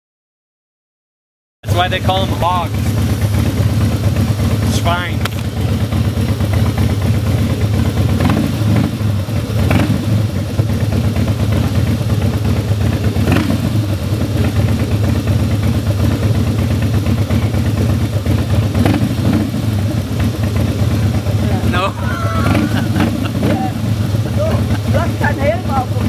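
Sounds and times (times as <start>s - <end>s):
motorcycle engine idling: 1.6s - 26.0s.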